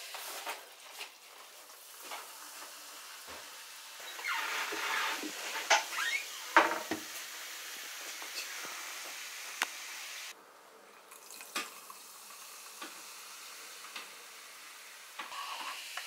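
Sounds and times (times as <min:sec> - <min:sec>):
carbonated water pouring and fizzing: 0:00.0 - 0:16.0.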